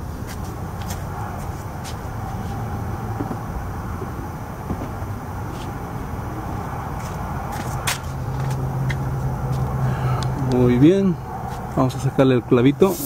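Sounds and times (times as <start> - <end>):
motor vehicle engines rumbling: 0.0 - 13.0.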